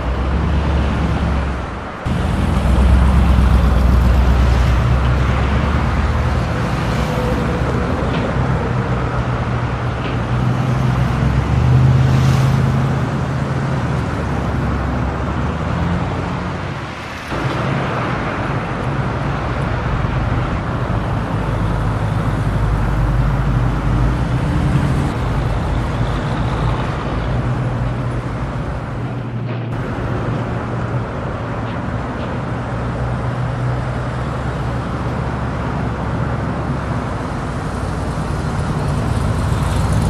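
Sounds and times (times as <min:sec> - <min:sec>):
car engines humming: 0:00.0 - 0:40.0
road noise: 0:00.0 - 0:40.0.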